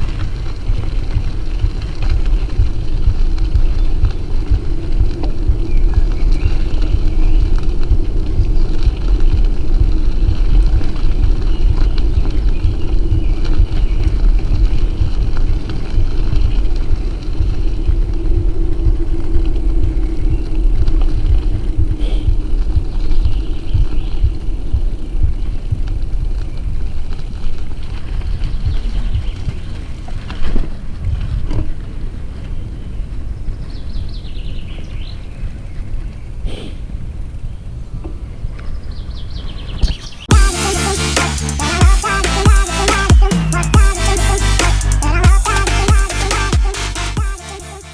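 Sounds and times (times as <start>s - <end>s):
wind on microphone: 0.0s - 40.5s
bicycle tyre noise on trail: 0.0s - 42.8s.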